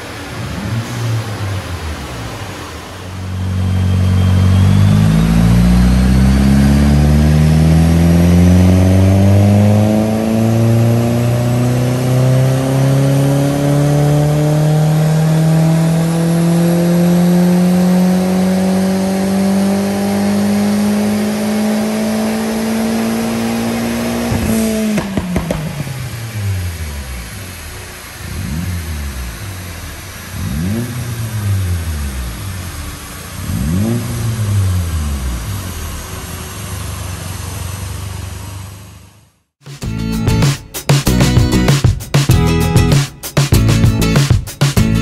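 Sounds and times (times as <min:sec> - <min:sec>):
turbocharged engine revving: 0:00.0 - 0:39.3
exhaust crackle: 0:00.0 - 0:39.4.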